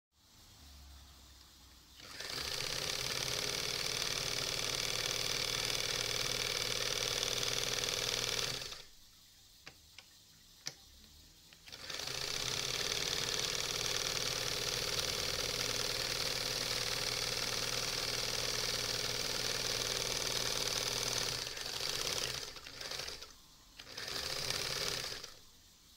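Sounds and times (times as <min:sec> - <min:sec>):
sewing machine stitching: 0:02.0 - 0:08.9, 0:11.5 - 0:25.4.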